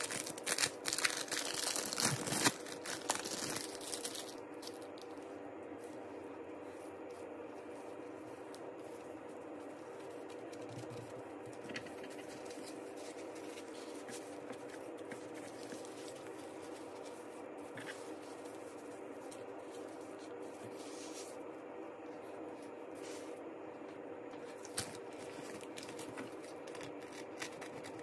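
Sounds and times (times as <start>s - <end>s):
nori sheet crinkling: 0.0s - 23.4s, 24.3s - 28.0s
steady background hum: 0.0s - 28.0s.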